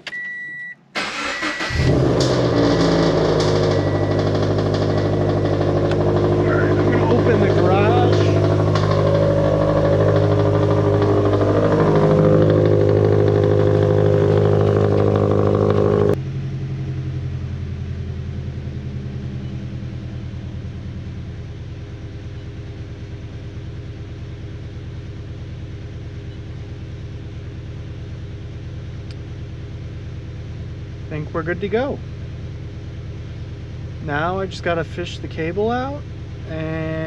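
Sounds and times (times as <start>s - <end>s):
engine running: 0.9s - 37.0s.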